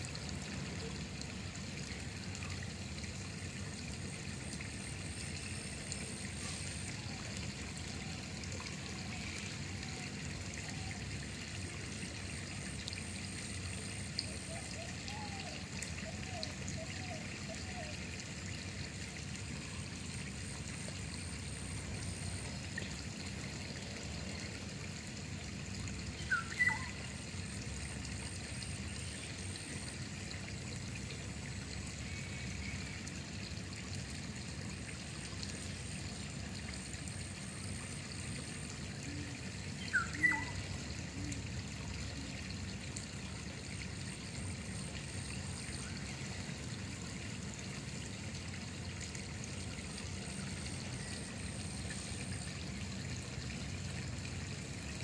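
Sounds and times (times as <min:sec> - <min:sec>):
water trickling in canal: 0:00.0 - 0:55.0.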